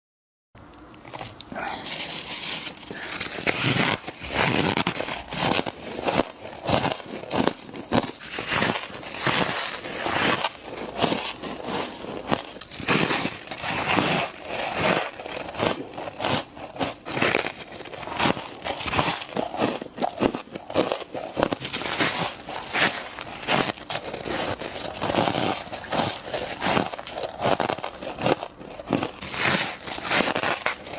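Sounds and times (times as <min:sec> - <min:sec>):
crunchy chewing: 0:00.7 - 0:30.9.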